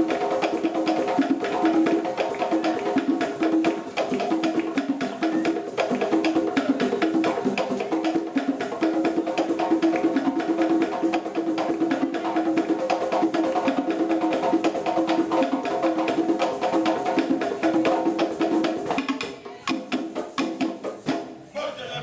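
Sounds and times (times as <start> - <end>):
hand drums playing fast rhythm: 0.0 - 22.0.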